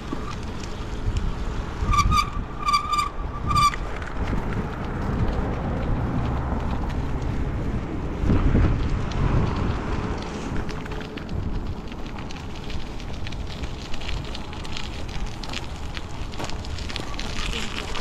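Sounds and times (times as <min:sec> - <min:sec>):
road and traffic rumble: 0:00.0 - 0:18.0
wind buffeting microphone: 0:00.0 - 0:18.0.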